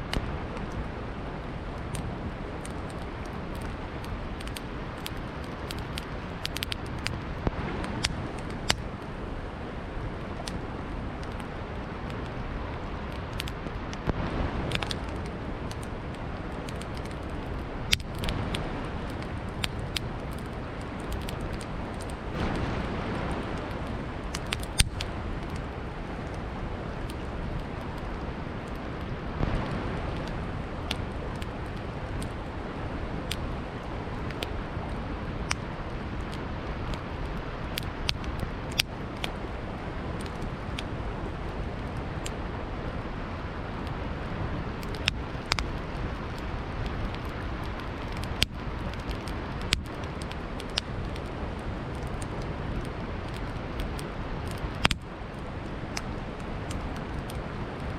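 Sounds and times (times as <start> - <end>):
campfire crackling and popping: 0.0 - 57.9
river flowing: 0.0 - 57.9.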